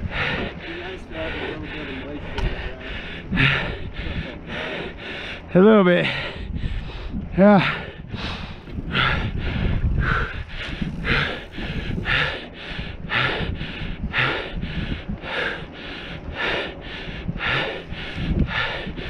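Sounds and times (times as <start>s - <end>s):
bike rumbling on dirt trail: 0.0s - 19.0s
person panting hard: 0.0s - 19.0s.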